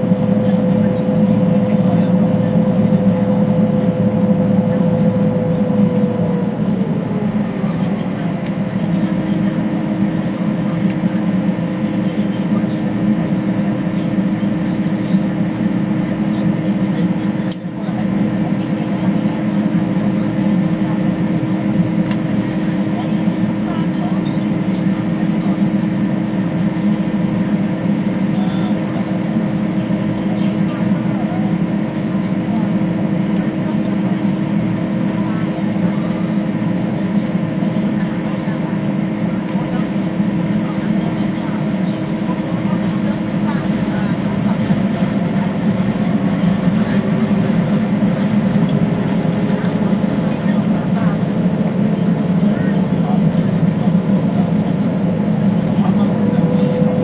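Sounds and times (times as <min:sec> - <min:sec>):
heavy engine drone: 0:00.0 - 0:57.0
high whine: 0:00.0 - 0:57.0.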